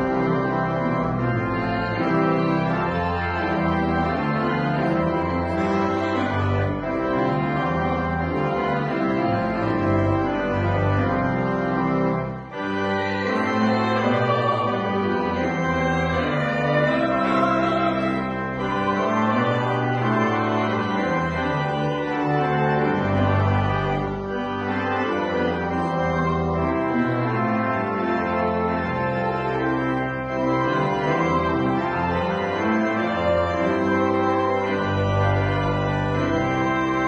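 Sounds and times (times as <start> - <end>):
church organ playing chords: 0.0 - 37.0.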